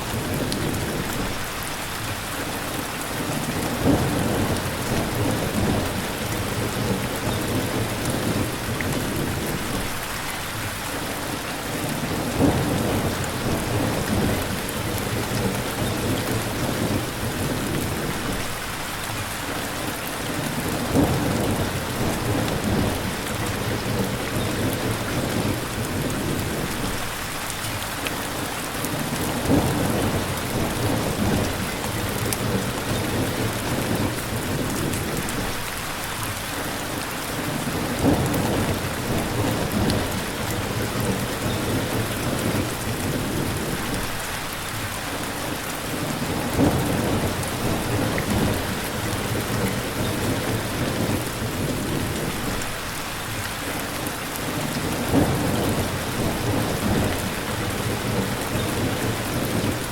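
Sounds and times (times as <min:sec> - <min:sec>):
rain pattering: 0:00.0 - 0:59.9
thunder rumbling: 0:03.2 - 0:10.1, 0:11.6 - 0:19.0, 0:20.3 - 0:27.2, 0:28.3 - 0:35.8, 0:37.4 - 0:44.9, 0:45.9 - 0:52.8, 0:54.4 - 0:59.9.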